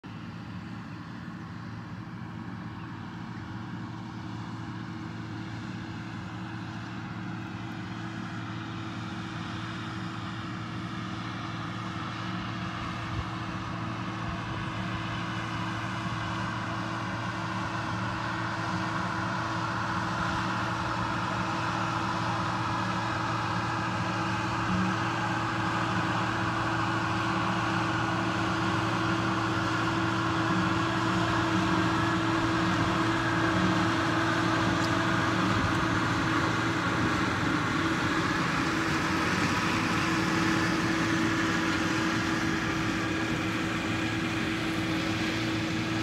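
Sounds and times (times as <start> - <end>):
tractor and harvester drone: 0.0 - 46.0.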